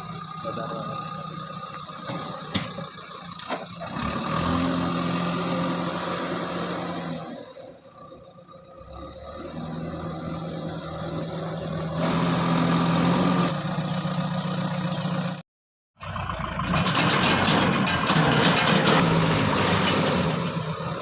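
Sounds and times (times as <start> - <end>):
diesel engine revving under load: 0.0 - 15.4, 16.0 - 21.0.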